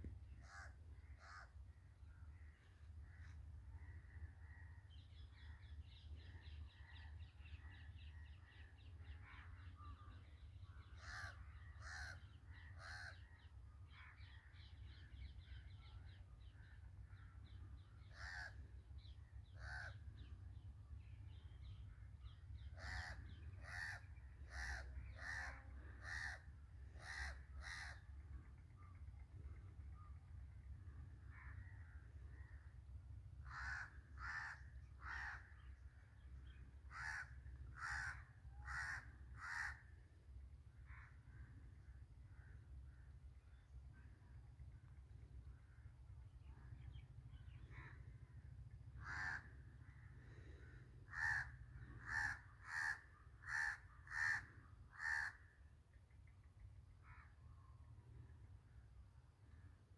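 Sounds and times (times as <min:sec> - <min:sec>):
birds calling: 0:00.0 - 0:40.2, 0:44.8 - 0:57.4.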